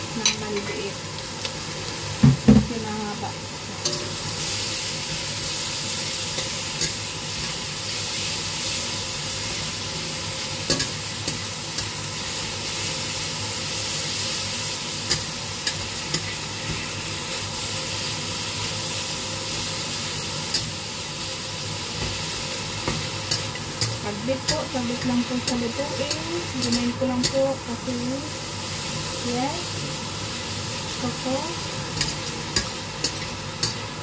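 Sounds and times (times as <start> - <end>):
beef and onion sizzling: 0.0 - 34.0.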